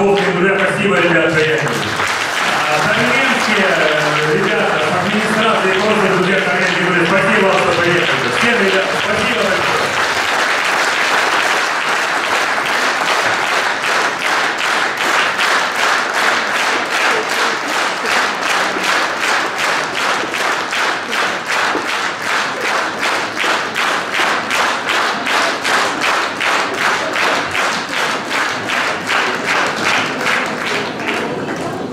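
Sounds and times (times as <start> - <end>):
audience applauding: 0.0 - 31.9
rhythmic clapping in unison: 0.0 - 31.9.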